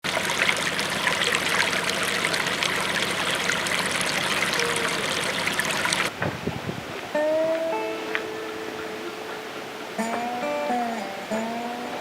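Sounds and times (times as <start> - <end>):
small stream trickling: 0.0 - 12.0.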